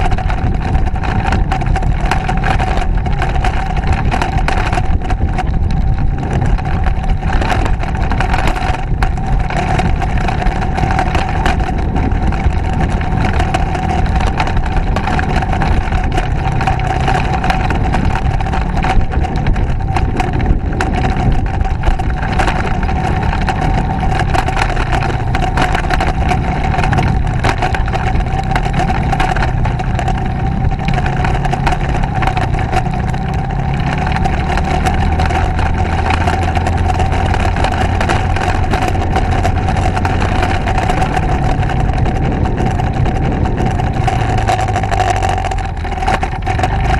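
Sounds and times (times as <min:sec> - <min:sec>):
crackle of small clicks and knocks: 0:00.0 - 0:46.9
motorcycle engine running: 0:00.0 - 0:46.9.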